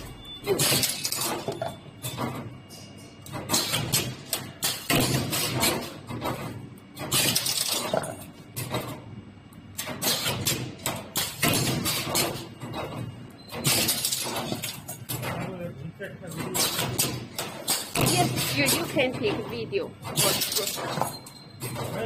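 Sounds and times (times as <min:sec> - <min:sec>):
wire bending machine clattering: 0:00.0 - 0:09.1, 0:09.7 - 0:22.0.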